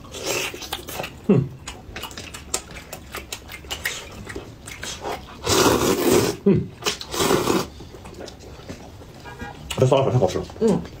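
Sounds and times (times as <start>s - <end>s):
wet chewing and lip smacks: 0.0s - 5.8s, 6.8s - 11.0s.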